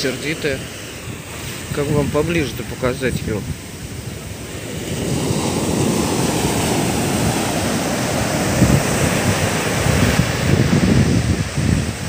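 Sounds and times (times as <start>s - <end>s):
waves breaking on beach: 0.0s - 12.0s
wind buffeting microphone: 0.2s - 12.0s.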